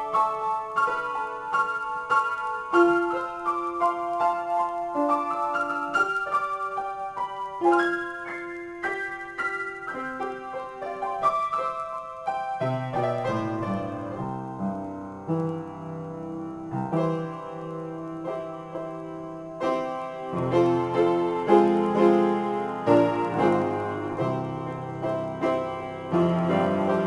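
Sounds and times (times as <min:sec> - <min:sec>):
solo piano: 0:00.0 - 0:27.0.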